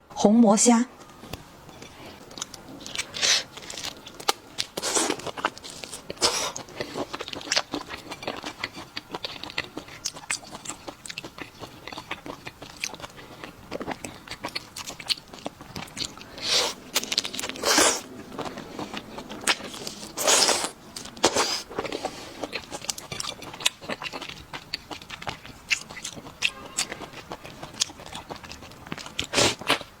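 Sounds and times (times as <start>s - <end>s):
crunchy chewing: 1.7s - 30.0s.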